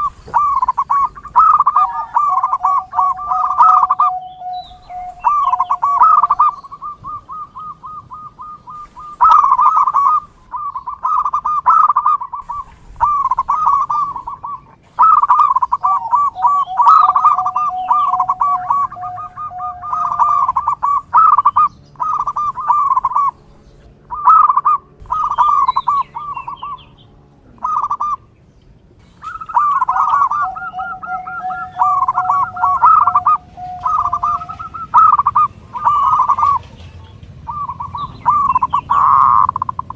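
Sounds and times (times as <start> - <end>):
doves cooing: 0.0 - 39.9
steady low tone: 0.0 - 39.9.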